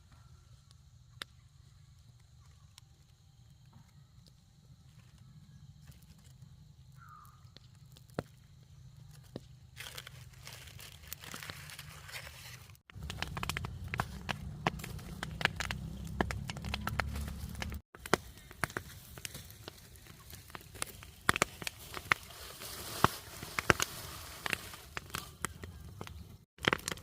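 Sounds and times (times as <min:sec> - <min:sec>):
dry crackling and crunching: 0:00.6 - 0:27.0.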